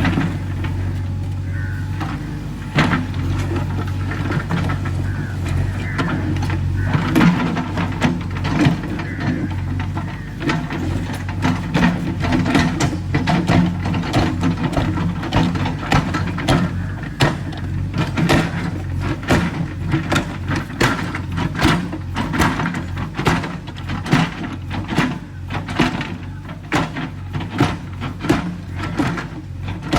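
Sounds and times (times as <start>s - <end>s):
knocks and clatter: 0.0s - 29.9s
machine engine running: 0.0s - 29.9s.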